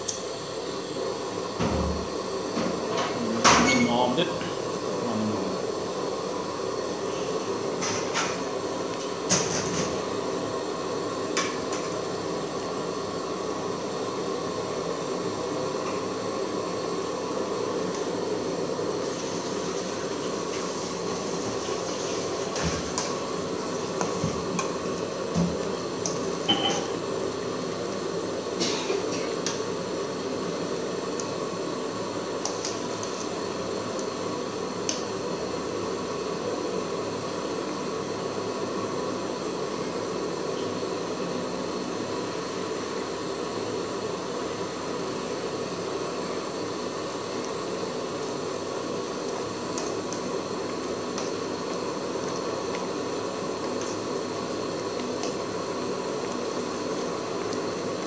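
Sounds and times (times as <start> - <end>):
soup boiling in a pot: 0.0 - 3.0, 4.4 - 58.0.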